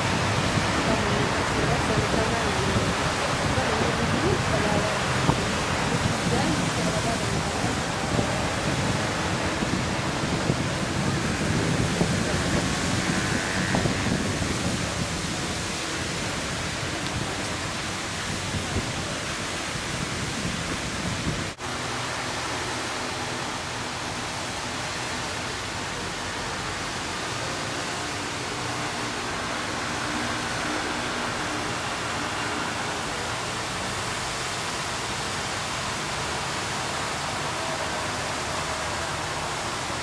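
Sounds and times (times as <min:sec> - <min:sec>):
water gushing from burst main: 0:00.0 - 0:40.0.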